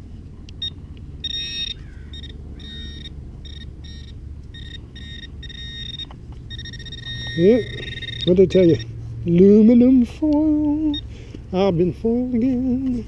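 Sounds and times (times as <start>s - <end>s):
metal detector pinpointer buzzing: 0.5s - 13.0s.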